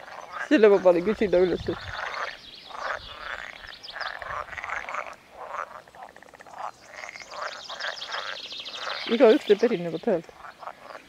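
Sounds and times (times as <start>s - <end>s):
chorus of frogs croaking: 0.0s - 11.0s.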